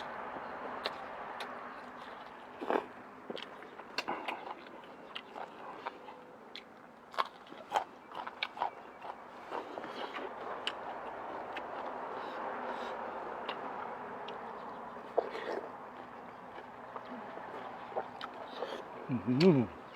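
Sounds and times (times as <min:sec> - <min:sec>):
person chewing food: 0:00.0 - 0:19.9.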